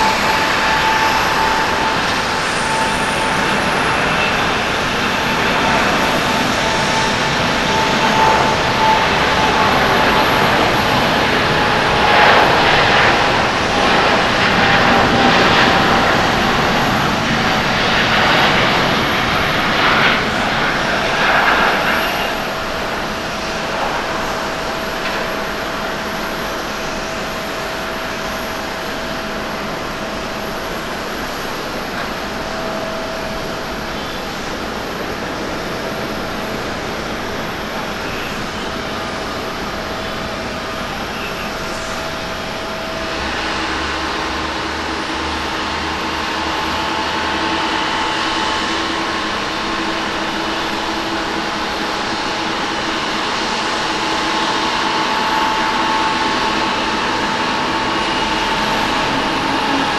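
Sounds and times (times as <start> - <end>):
jet engine roar at takeoff: 0.0 - 59.9
jet fan whine: 0.0 - 59.9.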